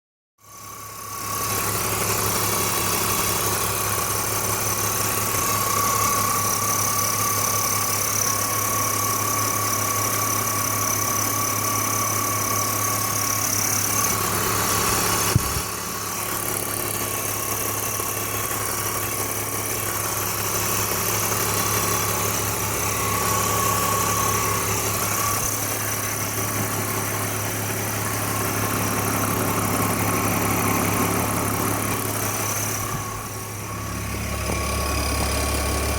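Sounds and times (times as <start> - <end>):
car engine idling: 0.4 - 35.9.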